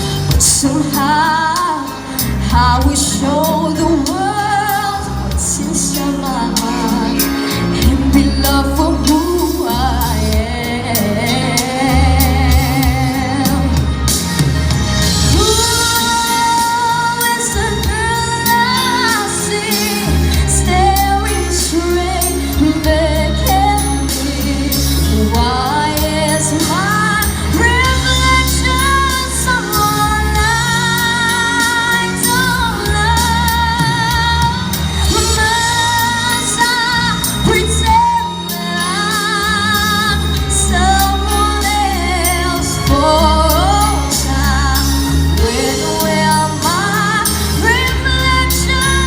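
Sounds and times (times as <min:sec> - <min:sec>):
instrumental accompaniment: 0:00.0 - 0:49.0
pop ballad backing track: 0:00.0 - 0:49.0
steady bass line: 0:00.0 - 0:49.0
woman singing: 0:00.0 - 0:49.0.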